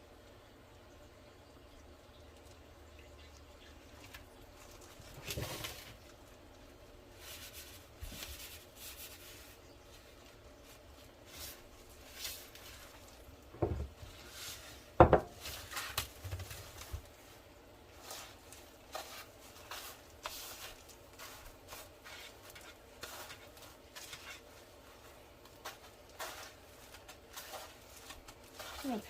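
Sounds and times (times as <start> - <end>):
soft kitchen rustles and taps: 3.3 - 29.0.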